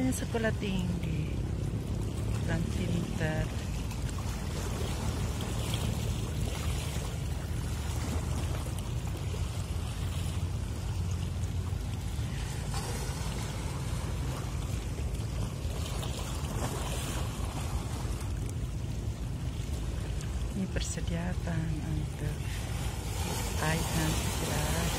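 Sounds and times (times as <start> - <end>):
ship engine rumble: 0.0 - 24.9
wind: 0.0 - 24.9.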